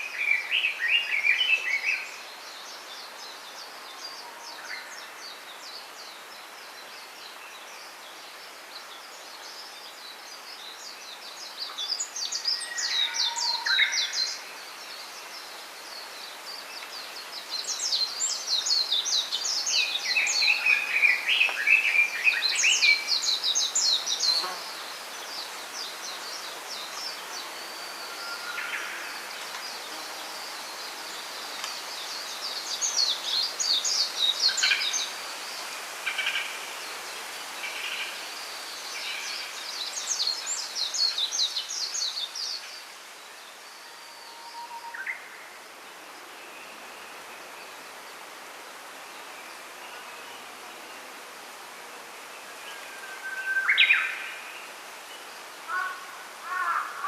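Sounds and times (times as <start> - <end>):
songbirds chirping and trilling: 0.0 - 57.0
steady background hiss: 0.0 - 57.0.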